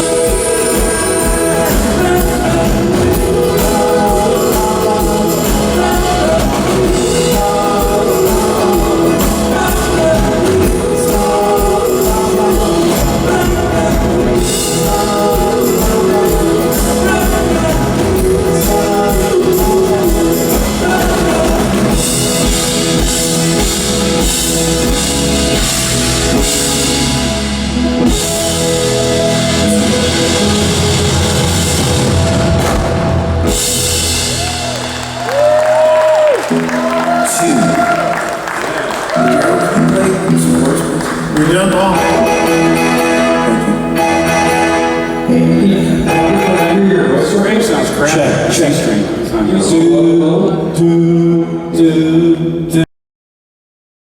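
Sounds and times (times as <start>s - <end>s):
person singing: 0.0s - 25.6s, 26.3s - 48.1s
drum kit: 0.0s - 48.0s
guitar: 0.0s - 52.8s.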